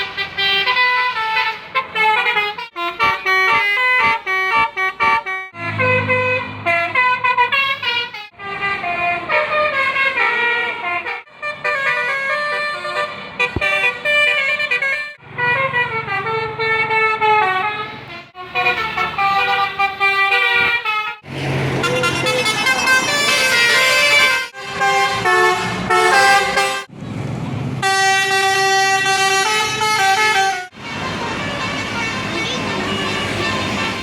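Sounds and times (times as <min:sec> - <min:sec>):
multi-tone bus horns playing melodies: 0:00.0 - 0:26.9, 0:27.8 - 0:34.0.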